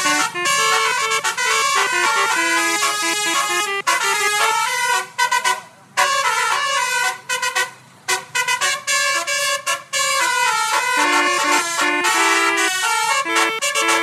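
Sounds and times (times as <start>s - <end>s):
multi-tone bus horn tune: 0.0s - 14.0s.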